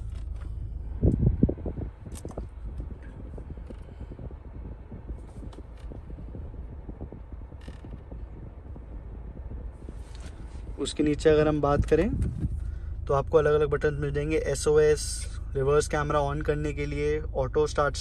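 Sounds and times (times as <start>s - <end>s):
low rumble: 0.0s - 18.0s
steady low cabin hum: 0.0s - 18.0s.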